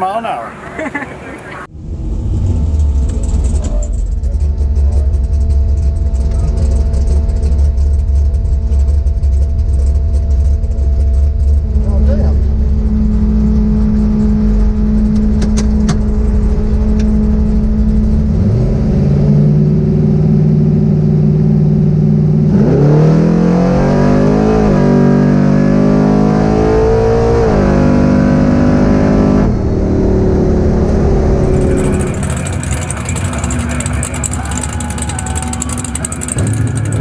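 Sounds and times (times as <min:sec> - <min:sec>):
drag car engine revving: 0:01.2 - 0:37.0.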